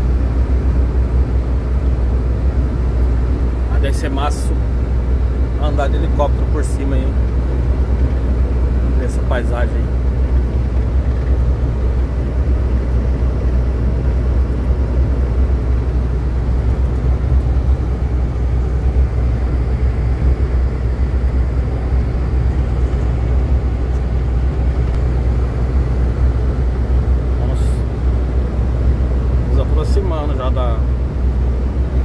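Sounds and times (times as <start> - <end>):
vehicle engine and tyre rumble: 0.0 - 32.0.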